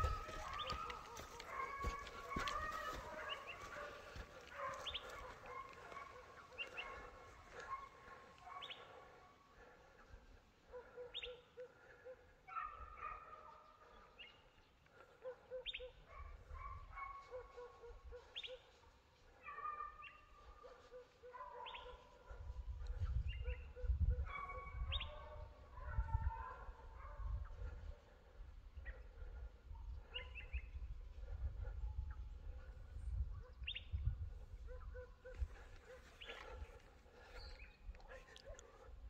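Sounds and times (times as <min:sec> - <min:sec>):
distant dogs baying: 0:00.0 - 0:39.0.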